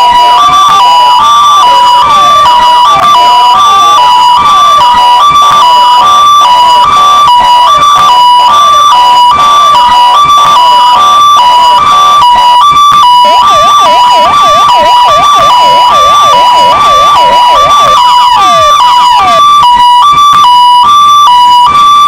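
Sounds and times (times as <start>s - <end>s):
hi-lo two-tone siren: 0.0s - 22.0s
swooping electronic siren: 0.0s - 22.0s.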